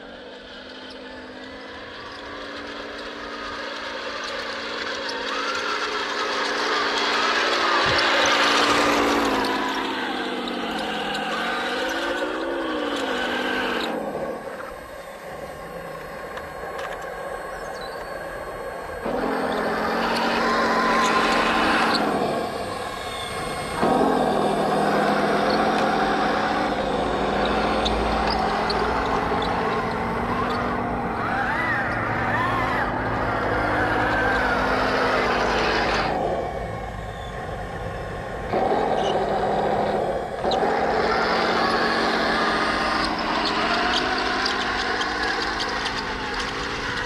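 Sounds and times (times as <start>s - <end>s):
toy tank motor drone: 0.0s - 47.0s.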